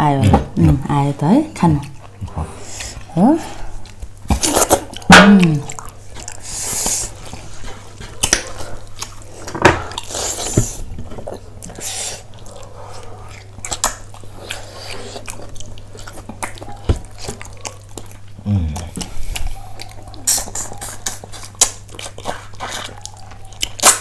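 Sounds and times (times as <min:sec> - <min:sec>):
chewing and slurping: 0:01.8 - 0:24.0.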